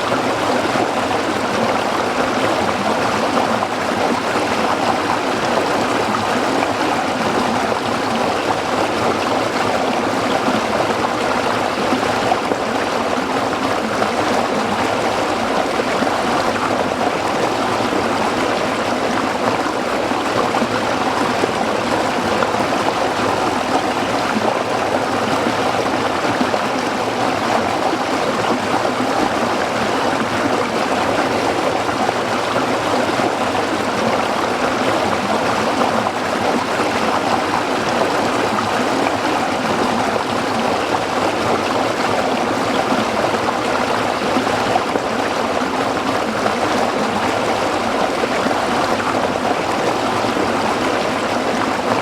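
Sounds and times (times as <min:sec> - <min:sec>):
stream splashing over rocks: 0:00.0 - 0:52.0.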